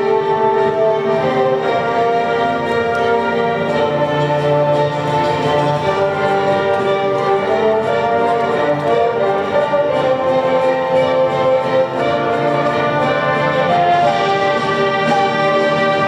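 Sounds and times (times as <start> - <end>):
orchestra brass: 0.0 - 16.0
orchestra strings: 0.0 - 16.0.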